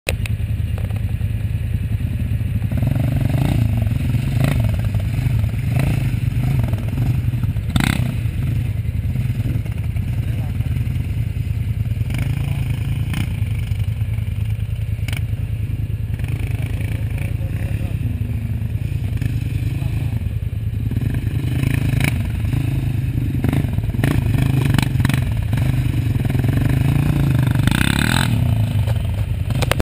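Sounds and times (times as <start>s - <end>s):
quad bike engine revving: 0.1s - 29.8s.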